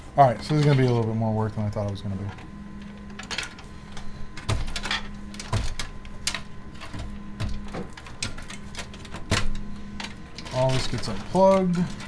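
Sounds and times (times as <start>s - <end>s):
steady low hum: 0.0s - 12.0s
clicks of computer parts: 1.7s - 12.0s.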